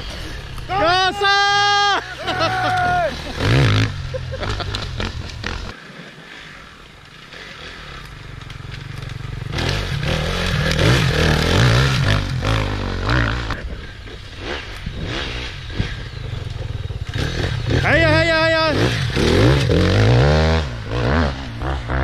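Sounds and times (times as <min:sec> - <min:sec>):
motorcycle engines revving past: 0:01.6 - 0:22.0.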